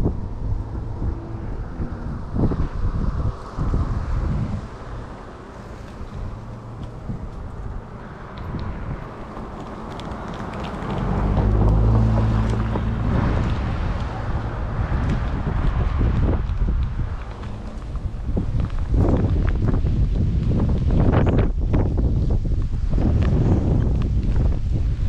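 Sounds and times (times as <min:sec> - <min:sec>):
engine: 0:00.0 - 0:25.0
strong wind buffeting microphone: 0:00.0 - 0:25.0.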